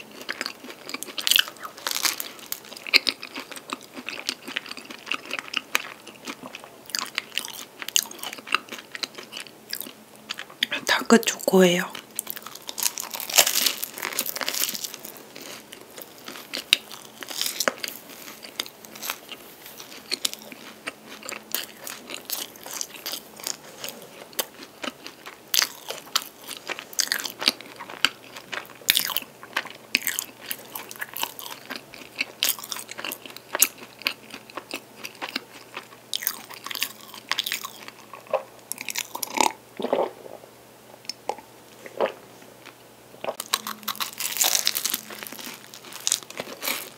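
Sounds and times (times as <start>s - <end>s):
crunchy chewing: 0.0s - 10.8s, 11.9s - 40.4s, 41.0s - 46.9s.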